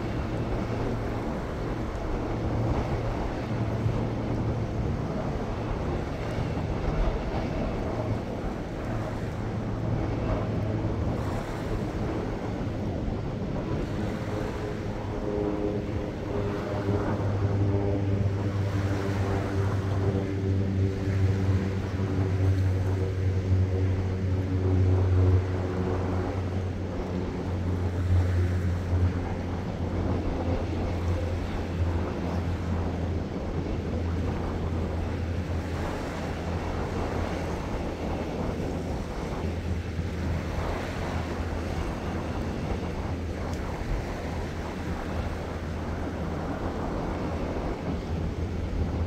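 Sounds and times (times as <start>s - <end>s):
low engine drone: 0.0s - 49.0s
wind buffeting microphone: 0.0s - 49.0s.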